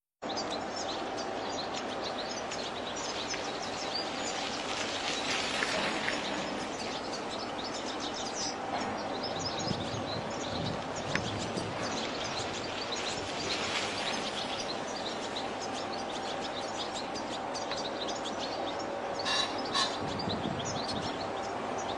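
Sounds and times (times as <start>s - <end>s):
goldfinch twittering: 0.2s - 21.9s.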